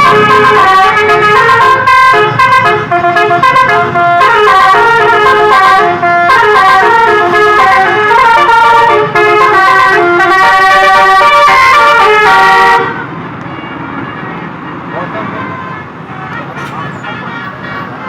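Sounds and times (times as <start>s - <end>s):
bus horn playing a melody: 0.0s - 18.0s.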